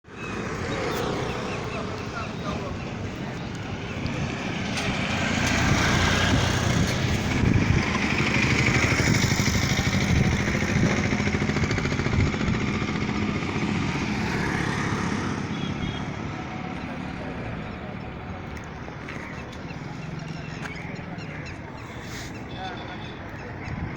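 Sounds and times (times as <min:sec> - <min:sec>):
vehicle engine rumbling: 0:00.1 - 0:23.9.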